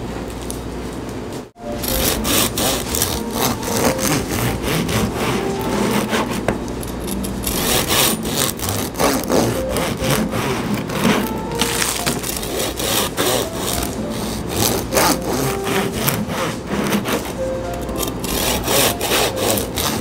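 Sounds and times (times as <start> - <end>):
bread knife sawing through loaf: 1.6 - 20.0.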